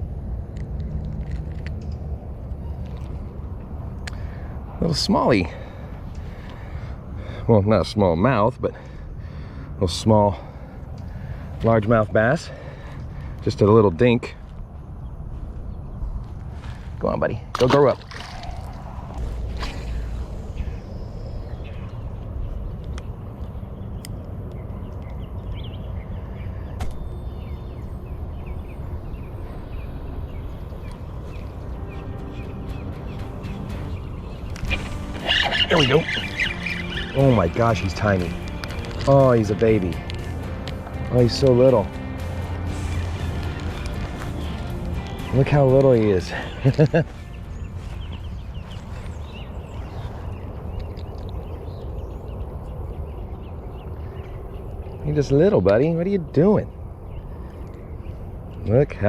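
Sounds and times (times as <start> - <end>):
low outdoor rumble: 0.0 - 59.0
small birds chirping: 1.8 - 59.0.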